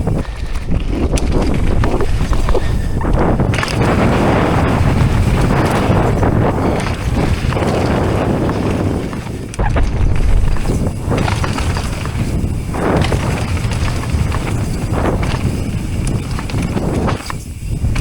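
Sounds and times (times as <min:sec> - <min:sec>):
bike tyre and trail rattle: 0:00.0 - 0:18.0
wind rushing over microphone: 0:00.0 - 0:18.0.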